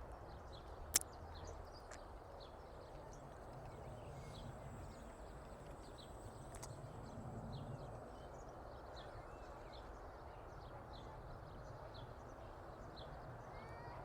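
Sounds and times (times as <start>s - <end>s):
faint bird chirps: 0.5s - 14.0s.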